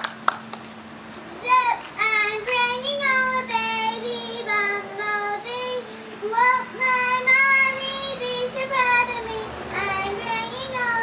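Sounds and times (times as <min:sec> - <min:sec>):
girl singing: 0:01.3 - 0:11.0.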